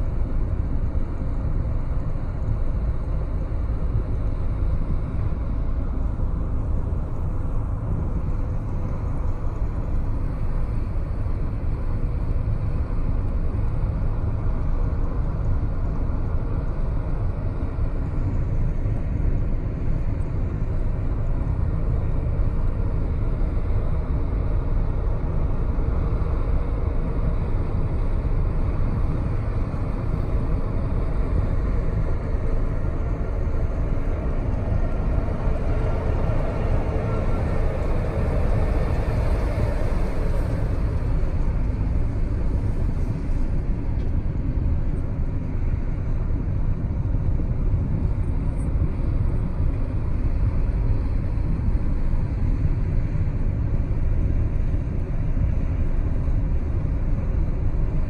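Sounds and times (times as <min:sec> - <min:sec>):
car road and tyre rumble: 0:00.0 - 0:58.0.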